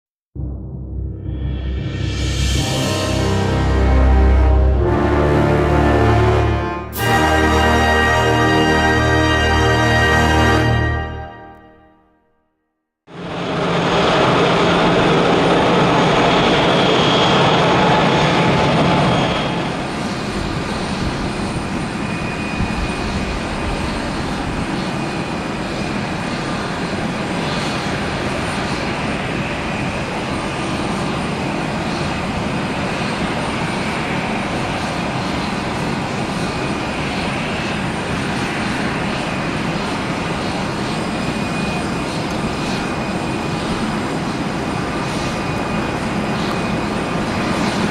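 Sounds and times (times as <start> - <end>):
jet engines at takeoff power: 0.8 - 11.6, 13.1 - 47.9.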